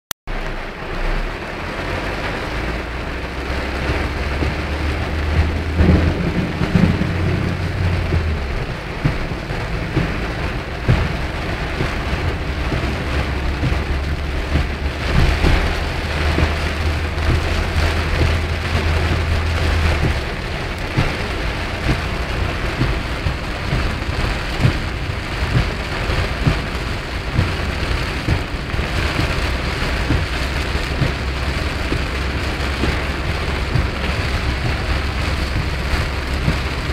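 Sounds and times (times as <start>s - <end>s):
heavy rain on car roof: 0.3s - 36.9s
low rumble: 0.3s - 36.9s.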